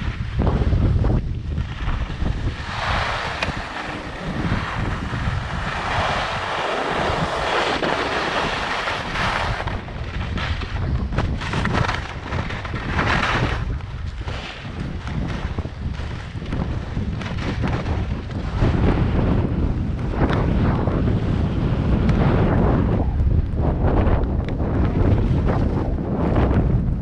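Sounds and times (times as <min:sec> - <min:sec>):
skis scraping on snow: 0:00.0 - 0:22.8
wind rushing over microphone: 0:00.0 - 0:27.0.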